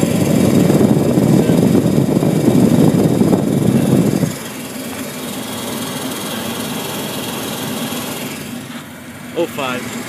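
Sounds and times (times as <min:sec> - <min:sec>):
gas furnace humming: 0:00.0 - 0:10.0.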